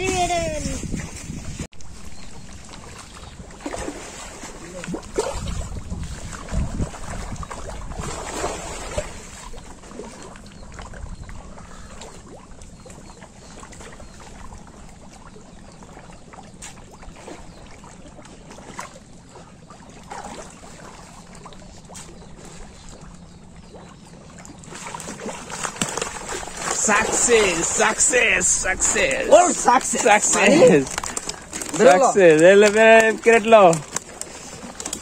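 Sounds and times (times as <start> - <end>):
water splashing and trickling: 0.0 - 35.0.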